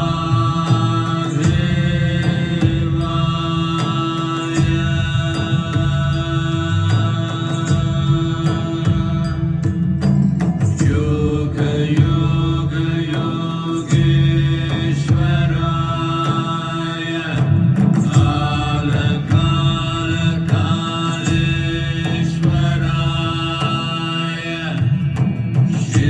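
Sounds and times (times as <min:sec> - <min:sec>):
voices chanting held notes: 0:00.0 - 0:09.7, 0:10.8 - 0:24.8
steady low drone: 0:00.0 - 0:26.0.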